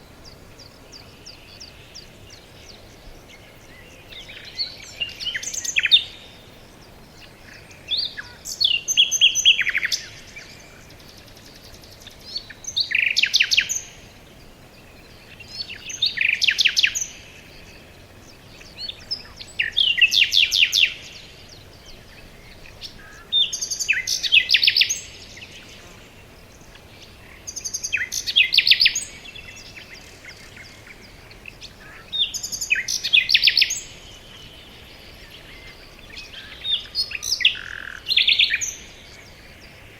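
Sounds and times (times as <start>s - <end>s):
faint steady background noise: 0.0s - 39.9s.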